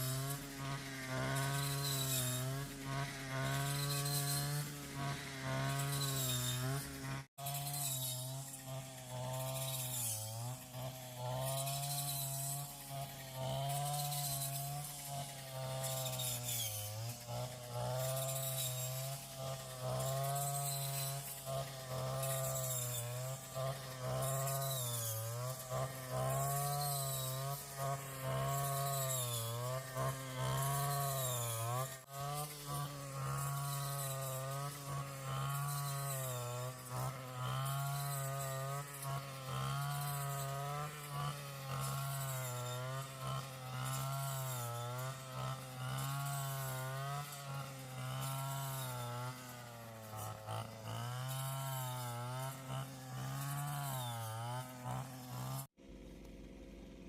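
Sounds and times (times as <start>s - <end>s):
small two-stroke engine running: 0.0s - 57.0s.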